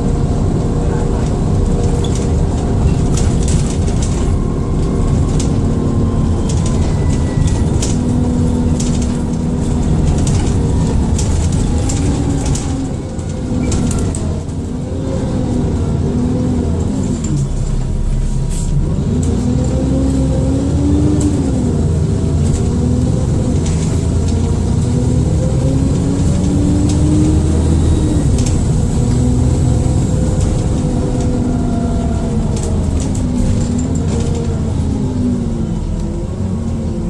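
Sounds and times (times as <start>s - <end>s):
bus engine under way: 0.0s - 37.0s.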